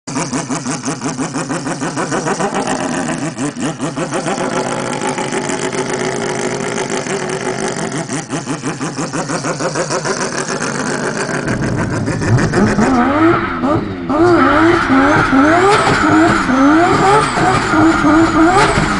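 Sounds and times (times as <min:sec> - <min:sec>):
rotary engine idling and revving: 0:00.1 - 0:18.9.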